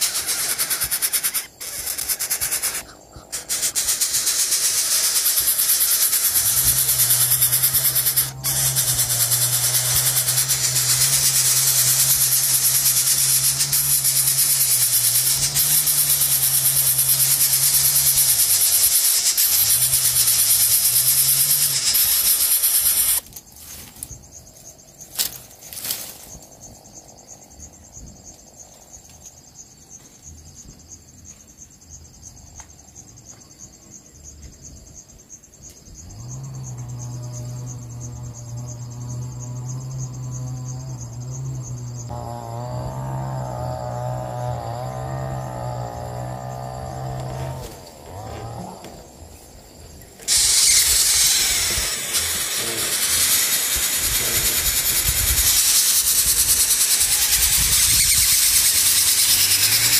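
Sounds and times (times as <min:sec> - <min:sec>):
insect trill: 0:00.0 - 0:59.9
insects hissing: 0:00.0 - 0:59.9.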